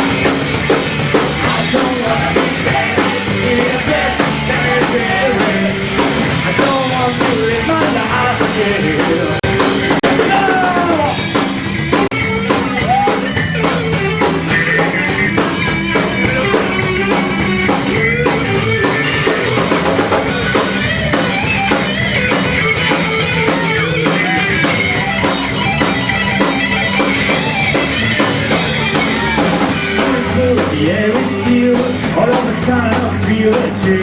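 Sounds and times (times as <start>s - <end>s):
drum kit beat: 0.0s - 34.0s
electric guitar: 0.0s - 34.0s.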